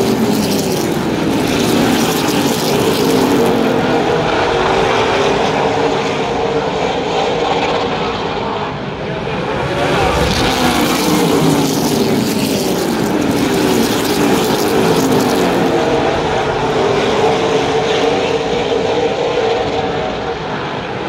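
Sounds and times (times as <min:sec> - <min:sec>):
race car engines roaring: 0:00.0 - 0:21.0.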